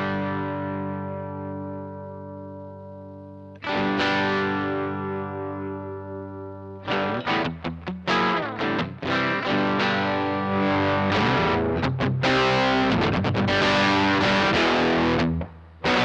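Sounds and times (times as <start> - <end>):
electric guitar chords ringing: 0.0 - 16.0.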